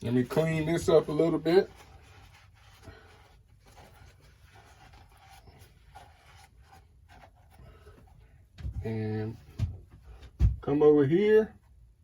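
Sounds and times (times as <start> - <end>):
rubbing and handling noises: 0.0 - 10.9.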